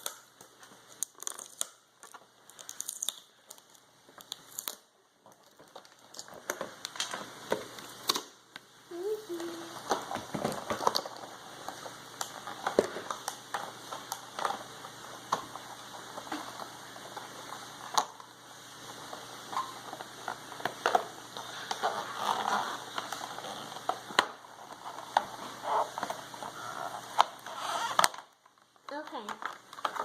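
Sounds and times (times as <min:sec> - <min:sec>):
plastic wrappers crinkling: 0:00.0 - 0:08.2, 0:09.0 - 0:30.0.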